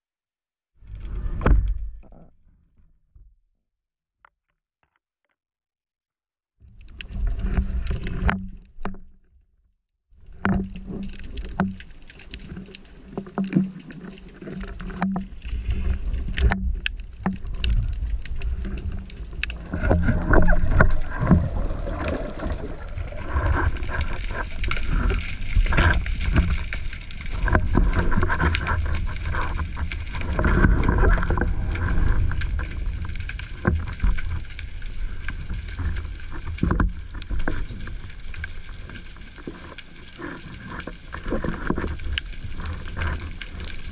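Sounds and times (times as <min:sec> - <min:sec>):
underwater rumble of moving water: 0:00.8 - 0:02.4, 0:06.6 - 0:09.1, 0:10.2 - 0:43.9
clicks and crackles: 0:06.7 - 0:09.3, 0:10.2 - 0:43.9.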